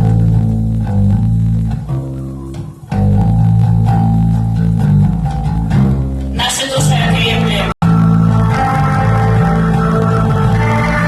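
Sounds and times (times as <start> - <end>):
live band with droning electric guitars: 0.0 - 11.0.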